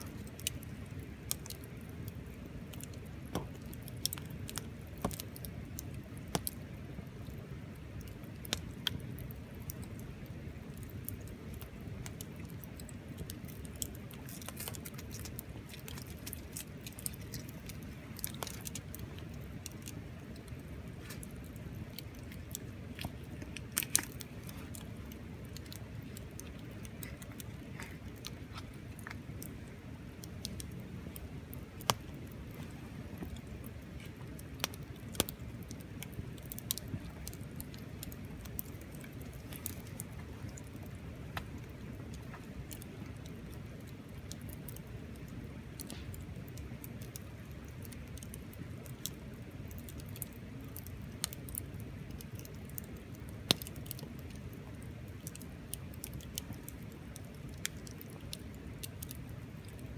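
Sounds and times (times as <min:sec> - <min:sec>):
burning wood popping: 0:00.0 - 0:59.9
campfire crackling: 0:00.0 - 0:59.9.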